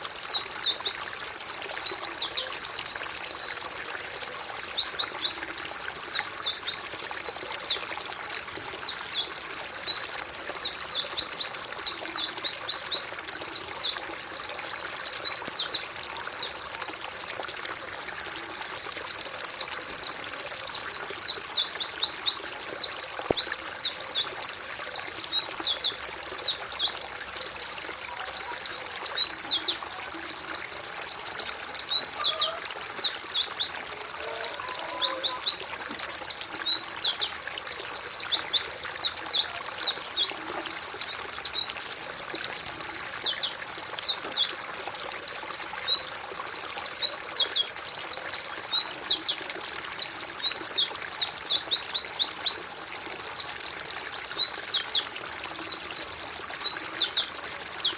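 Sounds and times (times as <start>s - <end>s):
birds chirping: 0.0s - 52.6s.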